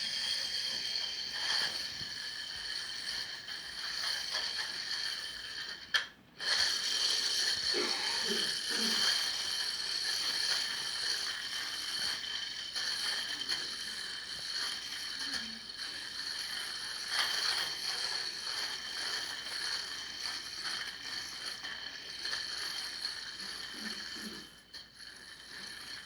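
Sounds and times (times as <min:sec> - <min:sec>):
yo-yo spinning whir: 0:00.0 - 0:26.0.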